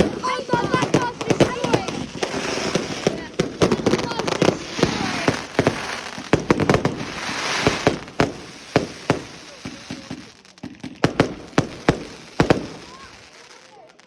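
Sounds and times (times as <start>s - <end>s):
fireworks banging and crackling: 0.0s - 14.0s
fireworks hissing: 0.0s - 14.0s.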